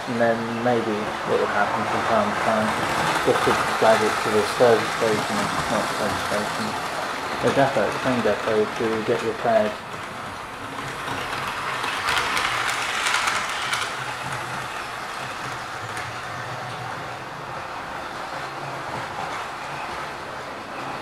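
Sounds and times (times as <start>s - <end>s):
model train wheels rattling on rail: 0.0s - 17.2s
clicks of train on track: 0.0s - 21.0s.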